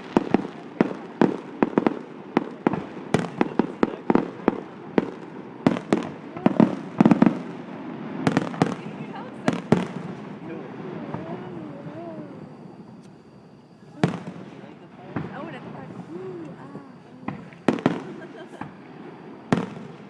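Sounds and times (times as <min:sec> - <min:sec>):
fireworks bangs and pops: 0:00.0 - 0:13.2, 0:14.0 - 0:20.0.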